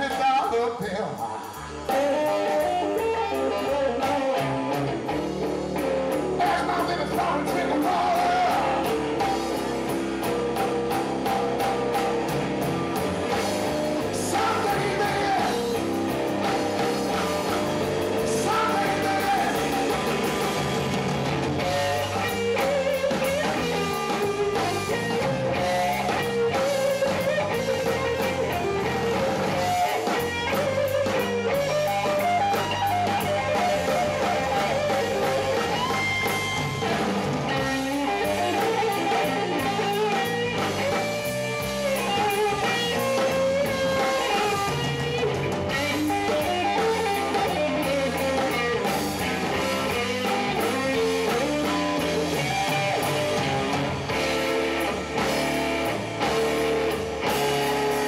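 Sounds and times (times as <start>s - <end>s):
bass: 0.0s - 58.0s
drum kit: 0.0s - 58.0s
electric guitar solo: 1.7s - 58.0s.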